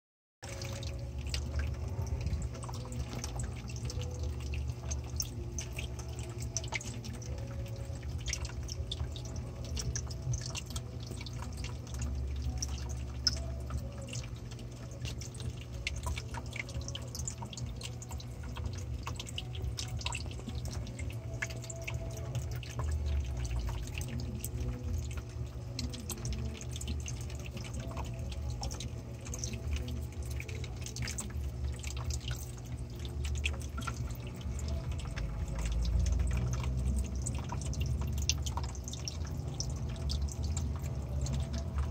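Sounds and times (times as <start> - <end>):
low hum: 0.4 - 41.9
water trickling and dripping: 0.4 - 41.9.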